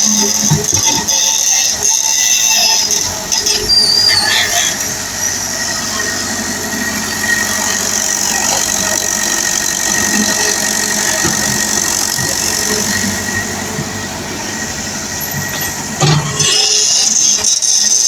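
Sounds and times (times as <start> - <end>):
excavator engine humming: 0.0 - 18.0
high mechanical whine: 0.0 - 18.0.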